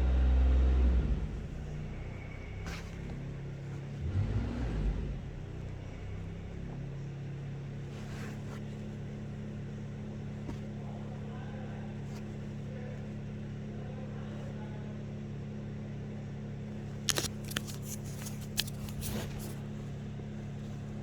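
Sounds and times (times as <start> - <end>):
car engine idling: 0.0 - 21.0
low engine rumble: 0.0 - 21.0.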